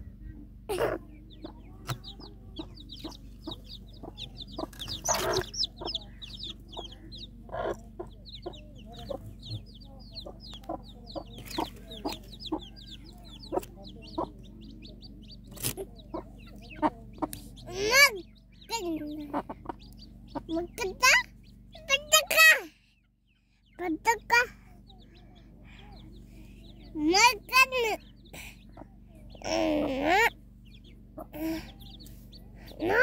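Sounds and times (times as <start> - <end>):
chicks peeping: 0.0 - 33.0
hen clucking: 0.7 - 22.5, 23.6 - 33.0.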